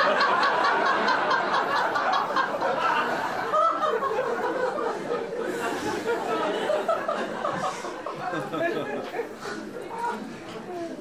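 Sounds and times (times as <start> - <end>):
group of people laughing: 0.0 - 11.0
people chattering: 0.0 - 11.0.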